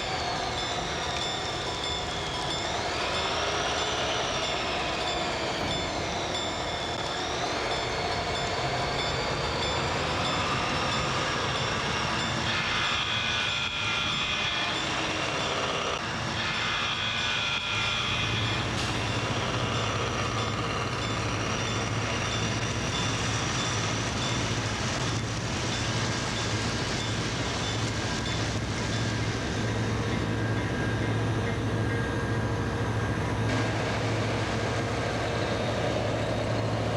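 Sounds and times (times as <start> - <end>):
train rumbling: 0.0 - 36.9.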